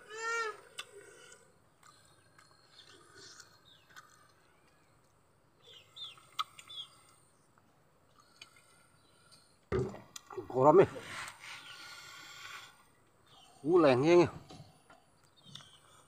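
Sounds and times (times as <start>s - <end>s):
faint bird chirps: 0.2s - 9.7s, 10.3s - 16.0s.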